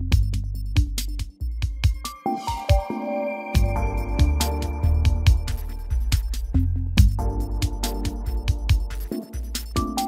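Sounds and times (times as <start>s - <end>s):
electronic music with beat and bass: 0.0s - 10.0s.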